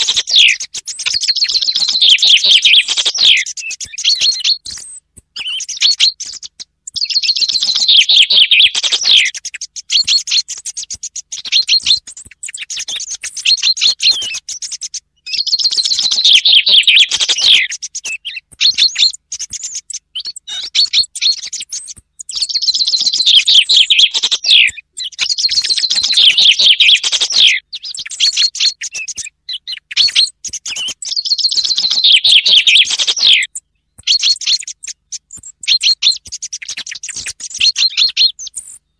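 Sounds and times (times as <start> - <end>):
bird chirps: 0.0 - 38.9
chaffinch song: 0.0 - 38.9.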